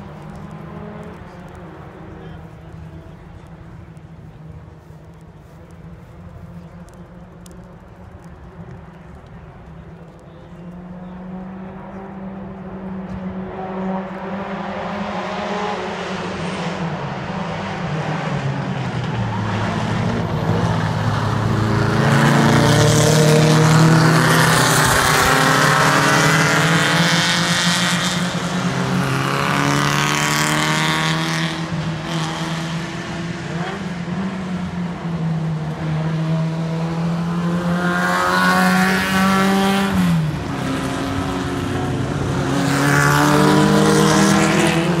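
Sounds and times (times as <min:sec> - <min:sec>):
race cars passing at speed: 0:00.0 - 0:45.0.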